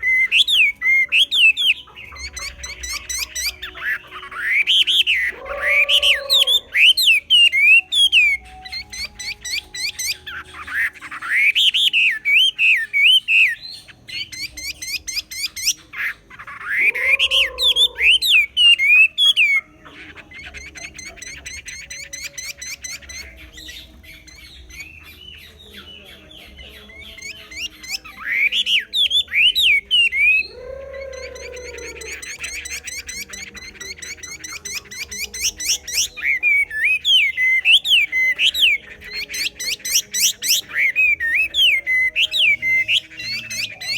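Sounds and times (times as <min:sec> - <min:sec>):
bird singing whistled phrases: 0:00.0 - 0:43.9
rapid bird chattering: 0:00.0 - 0:43.9.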